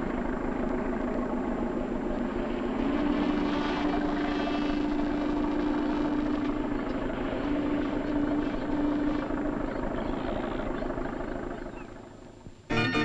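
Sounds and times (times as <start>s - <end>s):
ship machinery engine drone: 0.0s - 13.0s.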